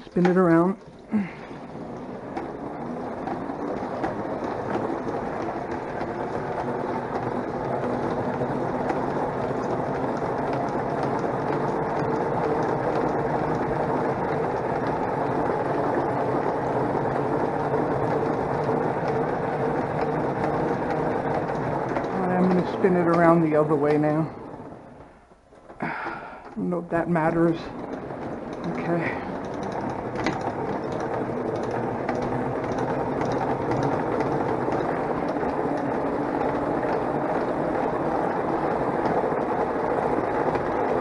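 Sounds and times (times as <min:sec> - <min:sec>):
washing machine drum spinning: 0:00.0 - 0:41.0.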